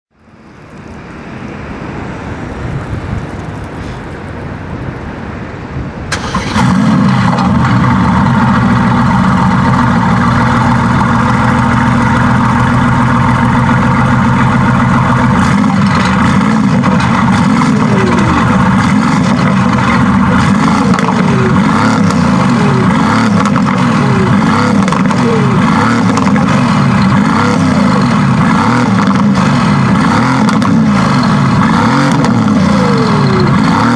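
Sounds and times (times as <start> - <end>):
car engine idling loudly: 6.1 - 33.9.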